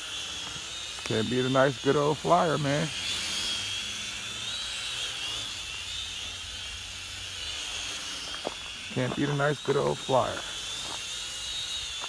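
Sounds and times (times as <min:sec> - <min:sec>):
toy drone motors whining: 0:00.0 - 0:12.0.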